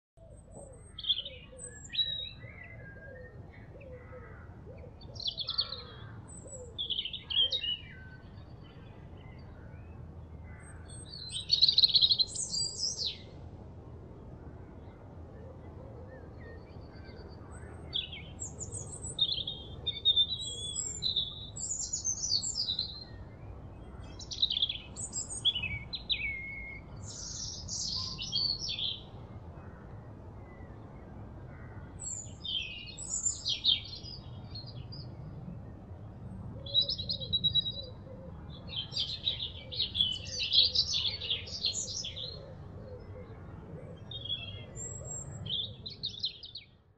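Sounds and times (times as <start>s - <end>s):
birds chirping and trilling: 0.2s - 13.6s, 14.3s - 46.9s
faint low background noise: 0.2s - 46.9s.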